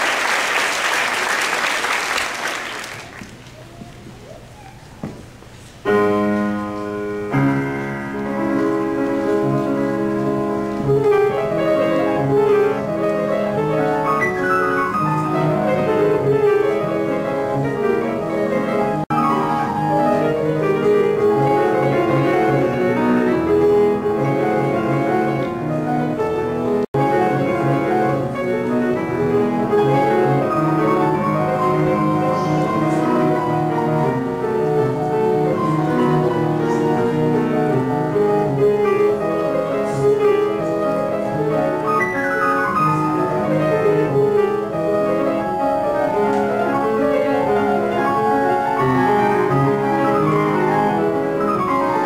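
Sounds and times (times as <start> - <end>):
grand piano playing: 5.8 - 52.0.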